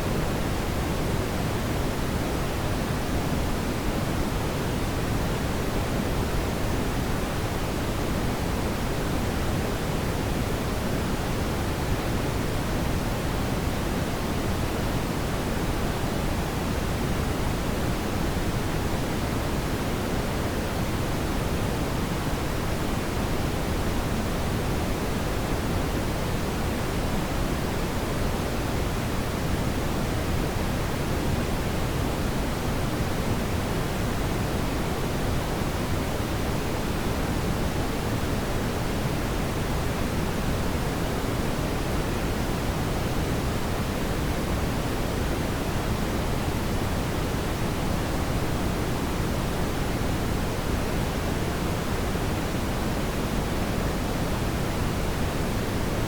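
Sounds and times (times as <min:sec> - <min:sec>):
steady brown noise: 0:00.0 - 0:56.0.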